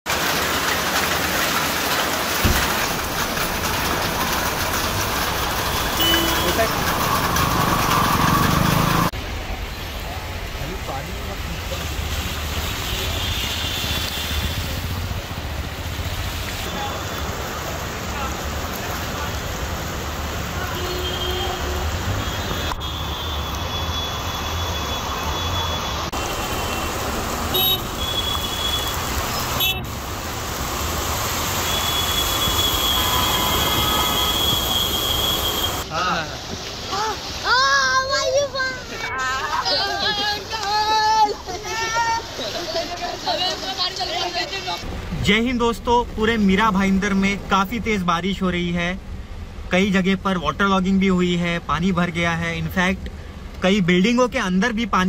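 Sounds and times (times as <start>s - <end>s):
heavy rain on standing water: 0.0s - 55.0s
running floodwater: 0.1s - 55.0s.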